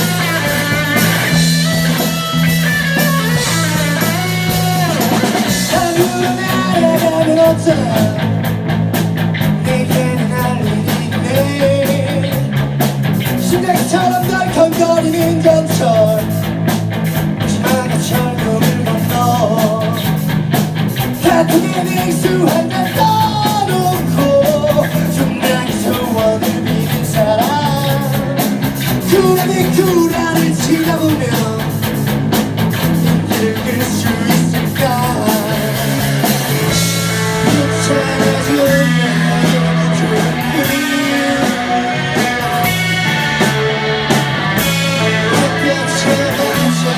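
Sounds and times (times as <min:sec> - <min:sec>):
bass line: 0:00.0 - 0:46.9
drums: 0:00.0 - 0:46.9
electric guitars: 0:00.0 - 0:46.9
person singing: 0:03.0 - 0:08.3, 0:09.6 - 0:12.5, 0:13.4 - 0:16.3, 0:17.5 - 0:20.1, 0:21.2 - 0:31.8, 0:33.2 - 0:46.9.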